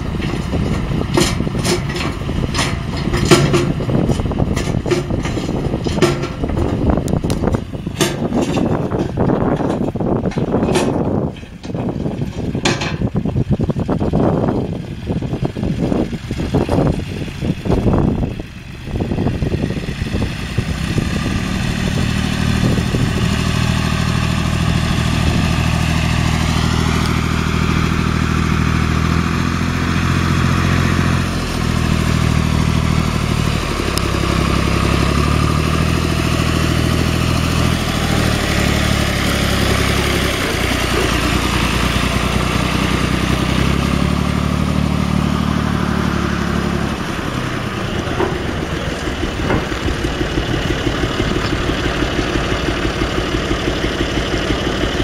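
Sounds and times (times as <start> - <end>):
diesel tractor engine running: 0.0 - 55.0.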